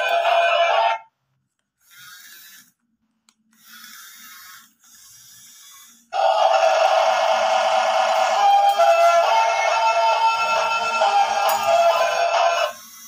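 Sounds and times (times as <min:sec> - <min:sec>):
toy electric motors whirring: 0:00.0 - 0:01.0, 0:01.6 - 0:13.0.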